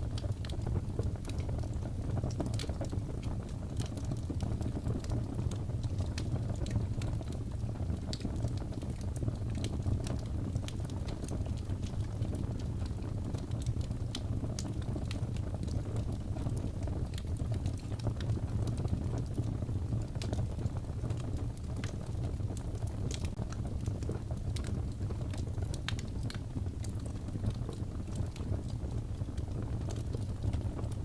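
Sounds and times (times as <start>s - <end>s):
fire crackling in fireplace: 0.0s - 31.0s.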